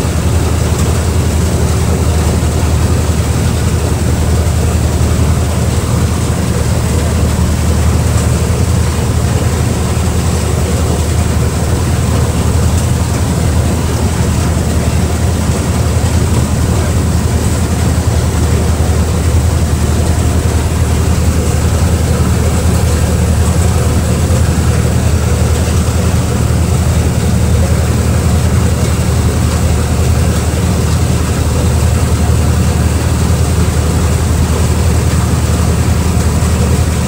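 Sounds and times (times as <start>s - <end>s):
speedboat engine droning: 0.0s - 37.0s
water rushing in boat wake: 0.0s - 37.0s.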